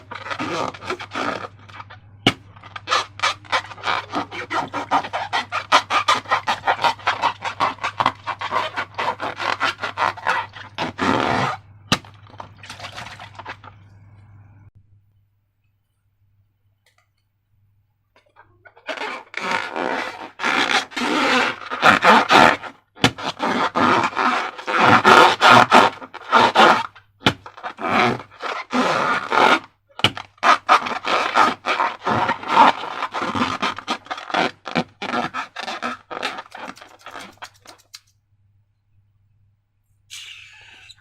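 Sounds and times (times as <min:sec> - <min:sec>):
slime squelching and scraping: 0:00.0 - 0:14.1, 0:18.4 - 0:38.1.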